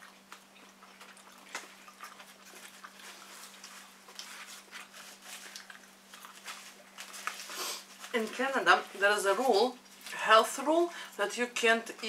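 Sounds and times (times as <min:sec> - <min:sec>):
people chewing and smacking lips: 0:00.0 - 0:10.3.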